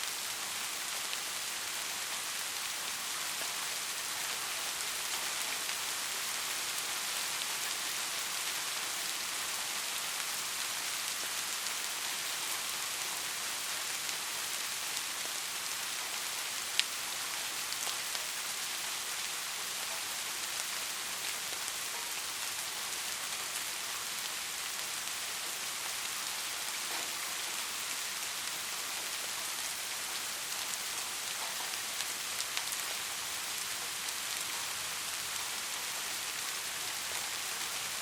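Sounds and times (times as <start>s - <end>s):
rain hiss: 0.0s - 38.0s.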